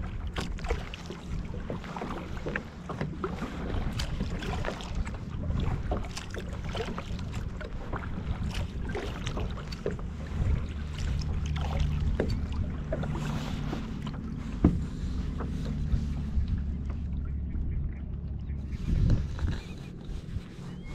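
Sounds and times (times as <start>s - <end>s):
water lapping against kayak hull: 0.0s - 20.9s
wind rumbling on microphone: 0.0s - 20.9s.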